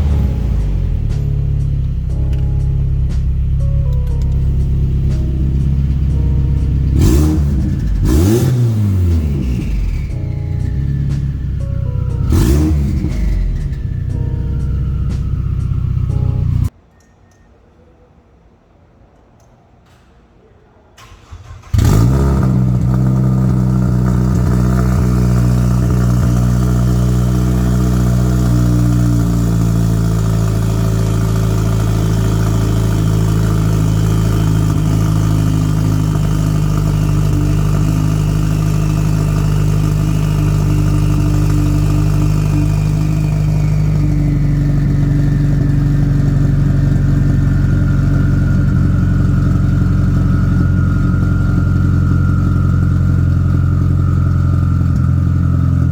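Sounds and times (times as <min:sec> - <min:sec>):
car engine idling: 0:00.0 - 0:16.7, 0:21.0 - 0:55.9
high whine: 0:00.0 - 0:17.1, 0:21.8 - 0:55.9.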